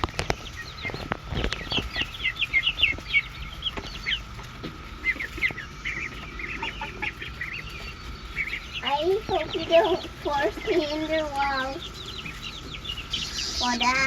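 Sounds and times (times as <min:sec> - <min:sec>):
cicada chorus drone: 0:00.0 - 0:14.0
hens clucking: 0:00.0 - 0:14.0.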